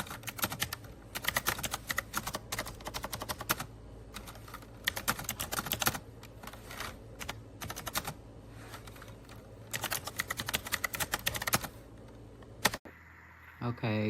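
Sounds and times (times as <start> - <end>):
clicky mechanical keyboard typing: 0.0 - 8.2, 8.8 - 11.8, 12.4 - 12.8.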